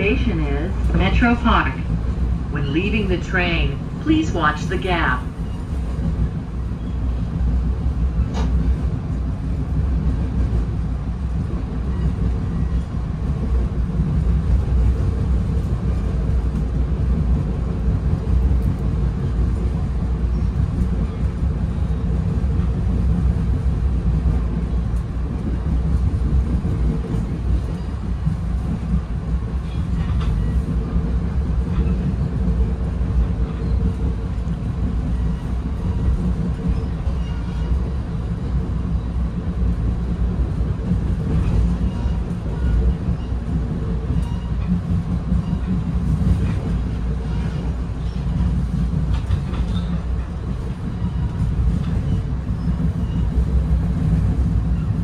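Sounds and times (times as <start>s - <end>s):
train cabin low rumble: 0.0s - 55.0s.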